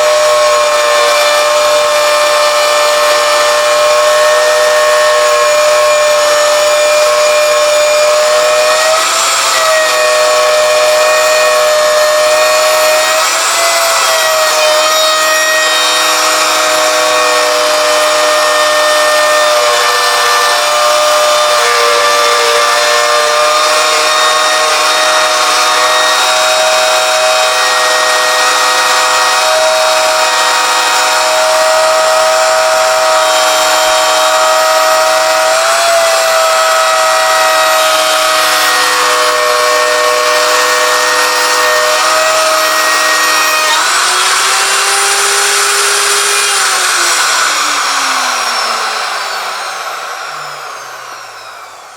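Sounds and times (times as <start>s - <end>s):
router cutting wood high whine: 0.0s - 51.9s.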